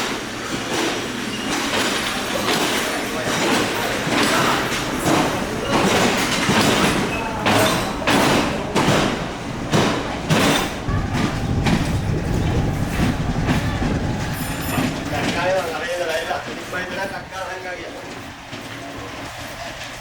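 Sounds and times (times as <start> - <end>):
train rumble: 0.0 - 20.0
train wheels clacking over rail joints: 0.0 - 20.0.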